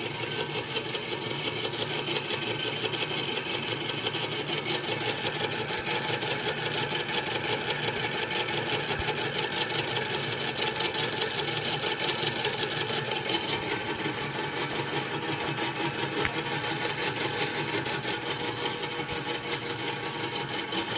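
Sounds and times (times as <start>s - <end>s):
small motor whirring: 0.0s - 20.9s.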